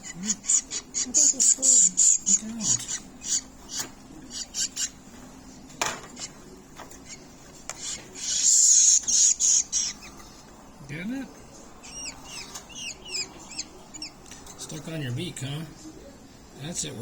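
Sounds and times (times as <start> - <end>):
baby birds begging calls: 0.0 - 5.1, 6.1 - 11.0, 11.7 - 15.6.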